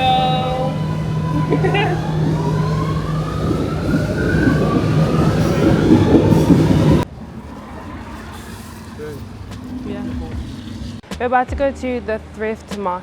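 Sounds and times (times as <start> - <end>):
train motor whine: 0.0 - 11.0
train rumbling: 0.0 - 11.0.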